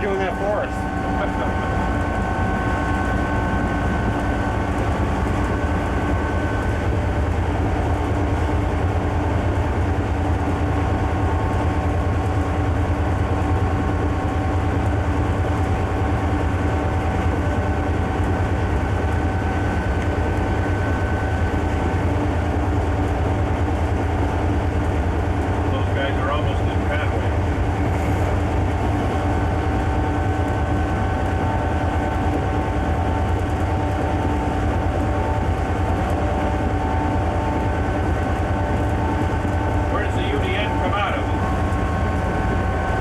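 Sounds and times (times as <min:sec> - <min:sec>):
diesel locomotive rumbling: 0:00.0 - 0:43.0.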